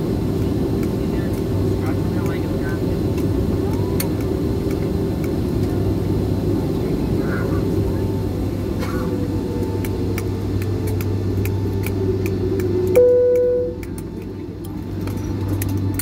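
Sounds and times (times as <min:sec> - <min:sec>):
engine and air-system hum: 0:00.0 - 0:16.0.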